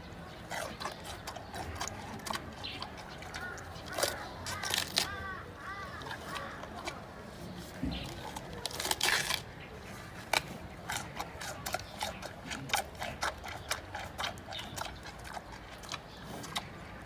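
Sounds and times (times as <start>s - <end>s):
panda chewing bamboo: 0.3s - 17.0s.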